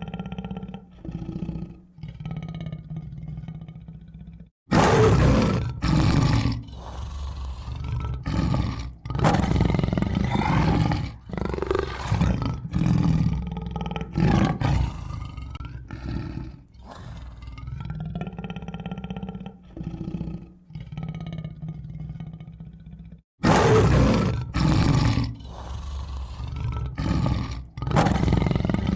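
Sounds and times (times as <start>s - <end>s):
tiger growling: 0.0s - 28.9s
tiger roaring: 0.0s - 28.9s.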